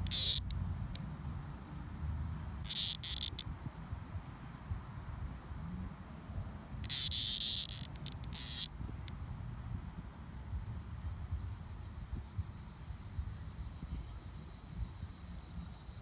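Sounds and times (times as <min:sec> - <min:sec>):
cicada buzzing: 0:00.0 - 0:06.0, 0:06.7 - 0:16.0.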